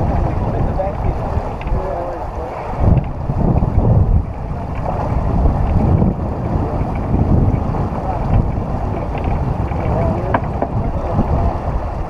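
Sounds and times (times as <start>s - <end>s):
water wash: 0.0s - 12.0s
wind buffeting microphone: 0.0s - 12.0s.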